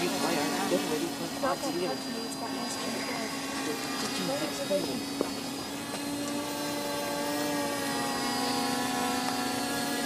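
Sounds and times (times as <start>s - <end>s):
quadcopter propellers buzzing: 0.0s - 10.0s.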